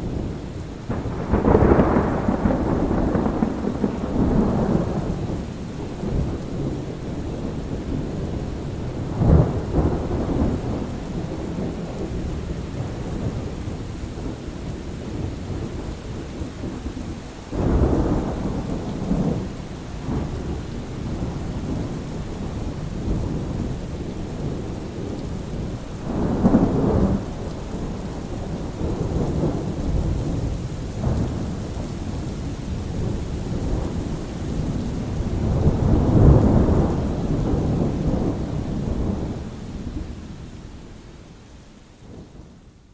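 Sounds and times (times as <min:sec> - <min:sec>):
thunder rumbling: 0:00.0 - 0:16.8, 0:17.5 - 0:40.5
steady rain: 0:00.0 - 0:42.9.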